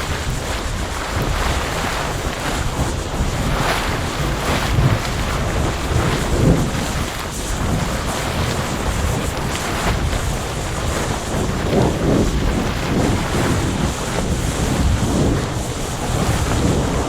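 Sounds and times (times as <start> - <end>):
volcanic eruption roaring: 0.0 - 17.0.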